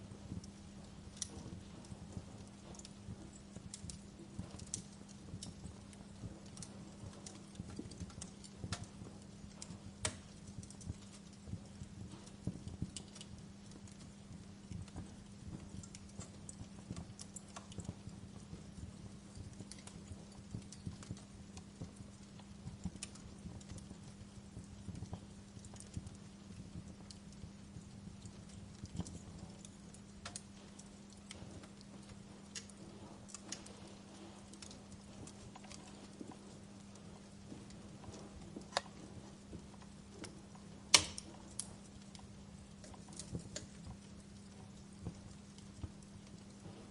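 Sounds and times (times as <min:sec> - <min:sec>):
faint low hum: 0:00.0 - 0:46.9
wood fire crackling and popping: 0:00.0 - 0:46.9.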